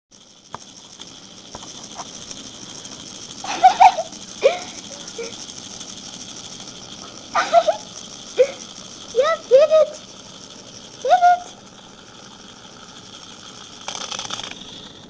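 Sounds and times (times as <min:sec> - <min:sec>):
toy bug buzzing rattle: 0:00.1 - 0:15.0.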